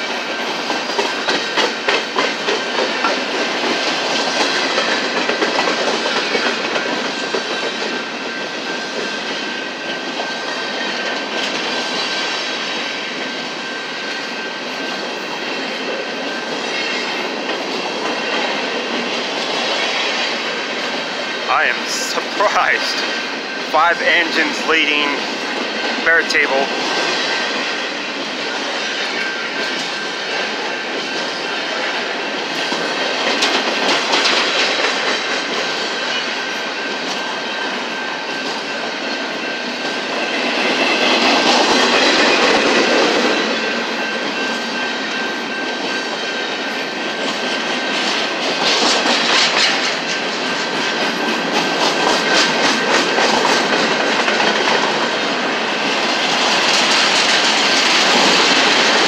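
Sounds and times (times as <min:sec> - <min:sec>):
freight train wheels clacking: 0:00.0 - 0:59.0.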